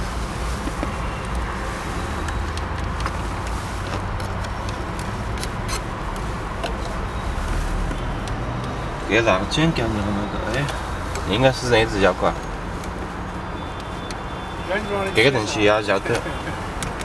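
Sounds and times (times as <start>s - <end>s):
vehicle rumble inside car: 0.0s - 17.0s.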